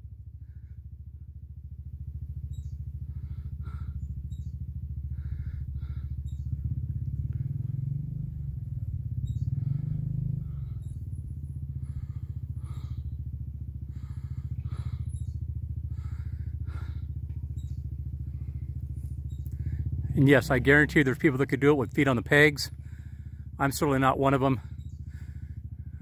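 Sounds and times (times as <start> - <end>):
distant dirt bike revving: 0.0 - 26.0
motorcycle engine idling: 0.0 - 26.0.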